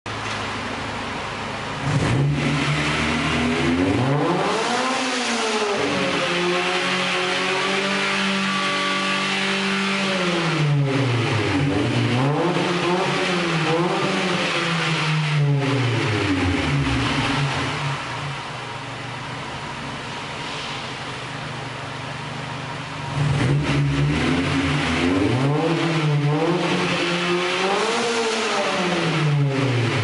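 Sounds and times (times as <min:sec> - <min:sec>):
car engine revving: 0:00.1 - 0:30.0.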